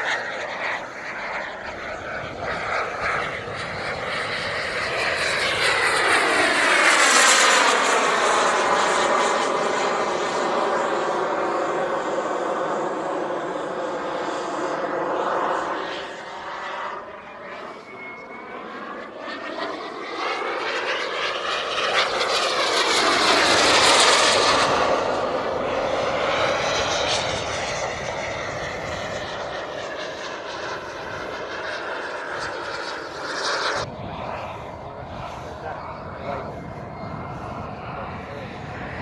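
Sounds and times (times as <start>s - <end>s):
model airplane engine flying past: 0.0s - 39.0s.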